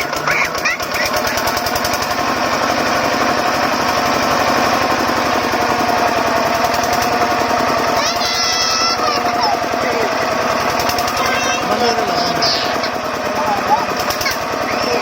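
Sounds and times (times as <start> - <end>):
diesel pump engine chugging: 0.0 - 15.0.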